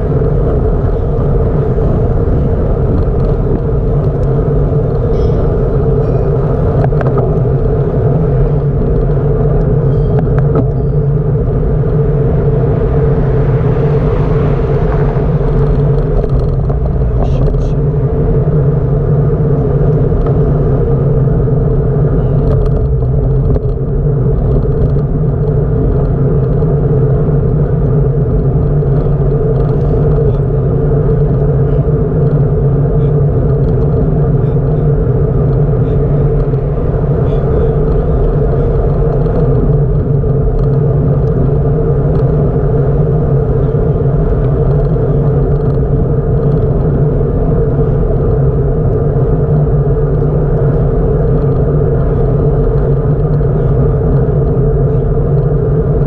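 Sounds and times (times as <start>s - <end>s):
constant hum: 0.0s - 56.0s
wind and road rumble: 0.0s - 56.0s.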